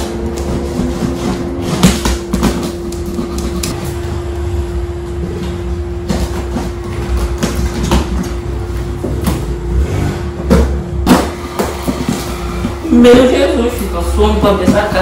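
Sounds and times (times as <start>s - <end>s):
packing tape and cardboard rasping: 0.0s - 4.2s, 5.1s - 15.0s
electric fan humming: 0.0s - 15.0s.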